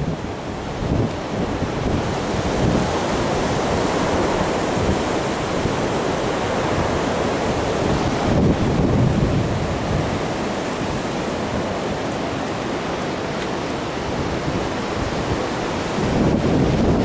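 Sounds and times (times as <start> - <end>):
hurricane wind buffeting microphone: 0.0 - 17.0.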